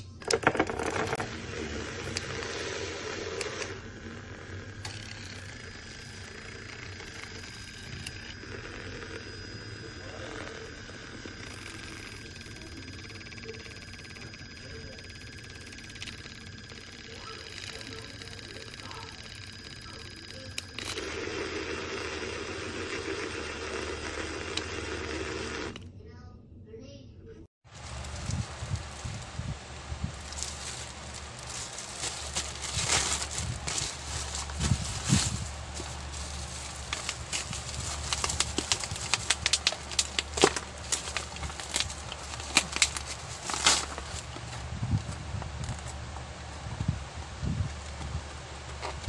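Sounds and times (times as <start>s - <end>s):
milk frother whirring: 0.0s - 25.9s, 27.7s - 46.4s.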